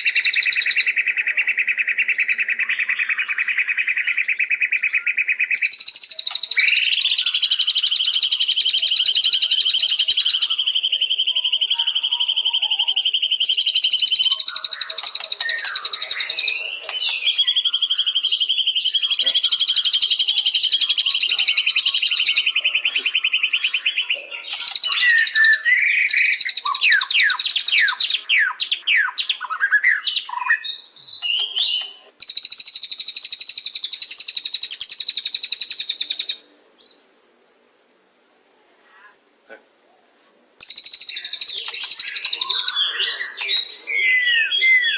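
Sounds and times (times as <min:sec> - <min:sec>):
songbird singing: 0:00.0 - 0:37.2, 0:40.6 - 0:44.9.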